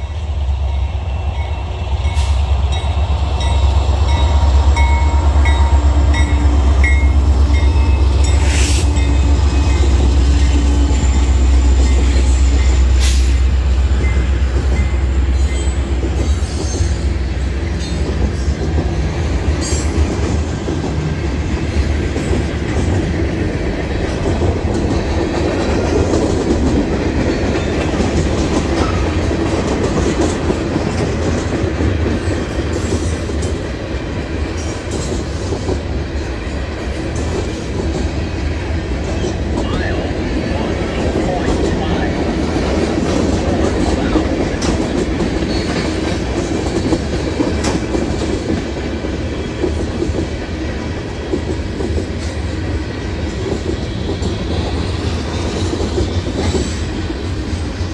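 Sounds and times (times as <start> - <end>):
diesel locomotive rumble: 0.0 - 57.9
train wheels clattering on rails: 0.0 - 57.9.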